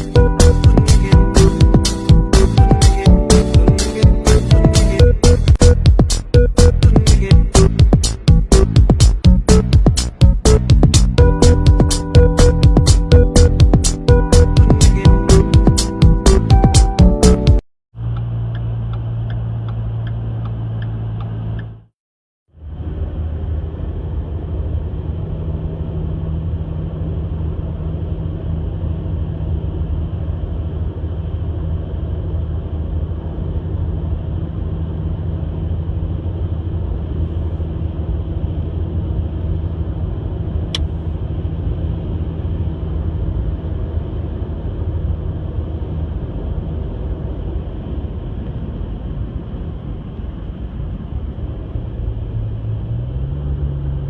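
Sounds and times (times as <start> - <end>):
vehicle engine droning: 0.0 - 21.9, 22.6 - 54.0.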